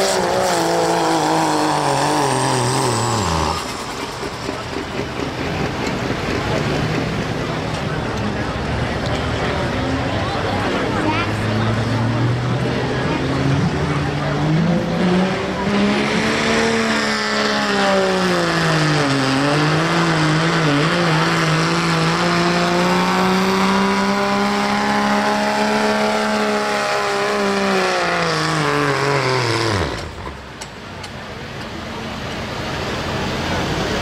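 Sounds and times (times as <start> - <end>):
diesel pickup engine under load: 0.0 - 10.9, 11.6 - 34.0.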